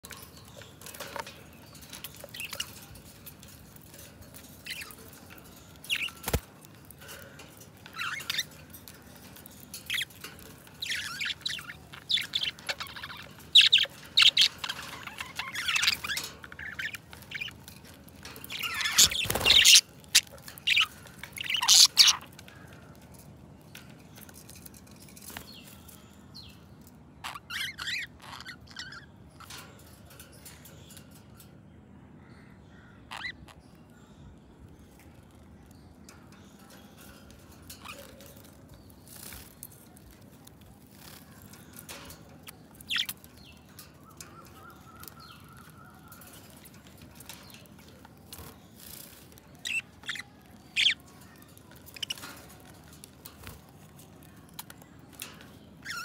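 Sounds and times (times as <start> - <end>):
budgerigars chirping and warbling: 0.0 - 22.8, 27.2 - 30.8, 33.1 - 33.8, 35.4 - 54.0, 54.6 - 56.0.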